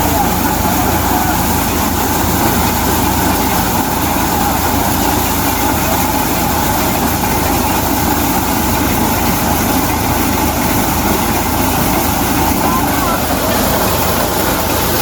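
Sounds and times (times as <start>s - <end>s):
engine low hum: 0.0s - 15.0s
maize sheller rattling: 0.0s - 15.0s.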